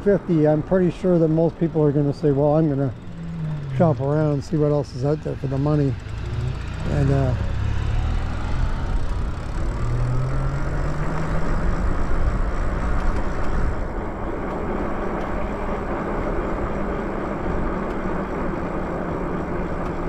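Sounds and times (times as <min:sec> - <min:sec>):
electric bike humming: 0:00.0 - 0:20.0
wind and road noise: 0:00.0 - 0:20.0.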